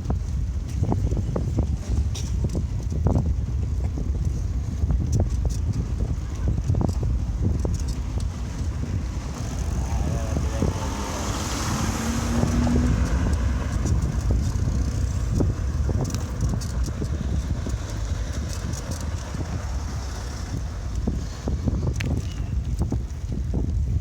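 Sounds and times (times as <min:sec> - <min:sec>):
bicycle rolling: 0:00.0 - 0:24.0
wind rumble on microphone: 0:00.0 - 0:24.0.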